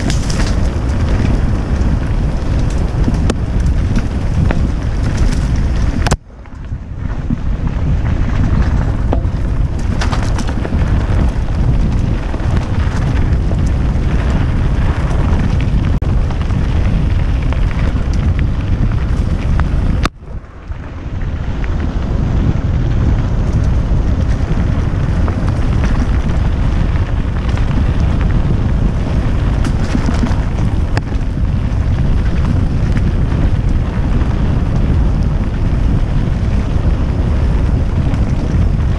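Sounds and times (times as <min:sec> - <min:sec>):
tyres rumbling over dirt trail: 0:00.0 - 0:38.9
wind buffeting microphone: 0:00.0 - 0:38.9.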